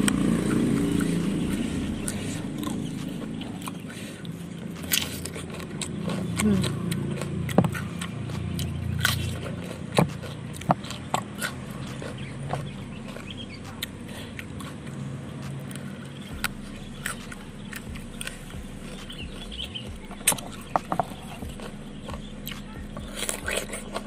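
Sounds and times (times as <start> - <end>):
chewing crunchy vegetables: 0.0 - 24.0
mouth clicks: 0.0 - 24.0.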